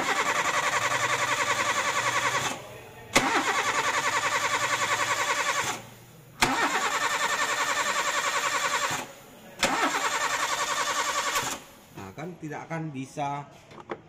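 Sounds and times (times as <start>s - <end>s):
starter motor cranking engine: 0.0s - 11.7s.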